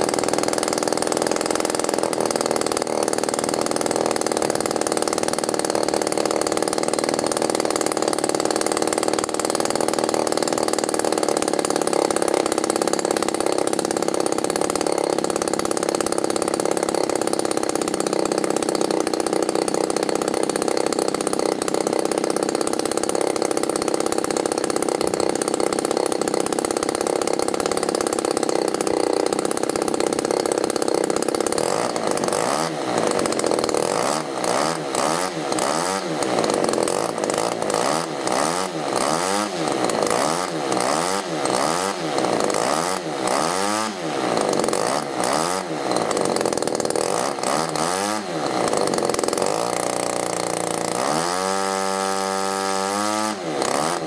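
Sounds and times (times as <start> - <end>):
model aircraft engine revving: 0.0 - 54.0.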